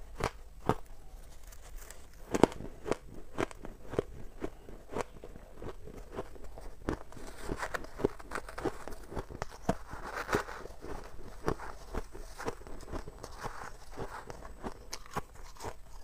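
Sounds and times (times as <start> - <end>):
ice being crunched and chewed: 0.0 - 16.0.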